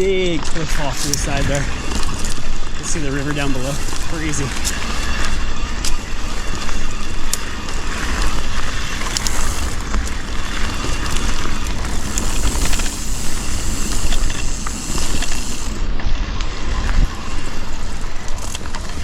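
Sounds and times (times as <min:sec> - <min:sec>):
bike rattling: 0:00.0 - 0:19.0
bike tyres rolling on dirt: 0:00.0 - 0:19.0
wind buffeting microphone: 0:00.0 - 0:19.0.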